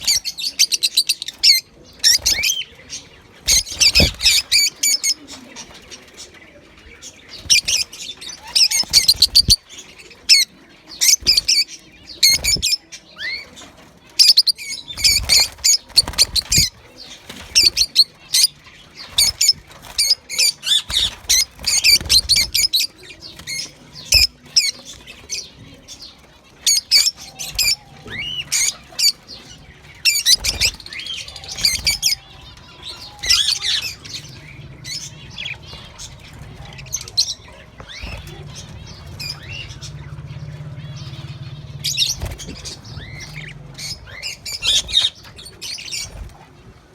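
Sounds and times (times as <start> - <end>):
budgerigars chirping: 0.0 - 46.6.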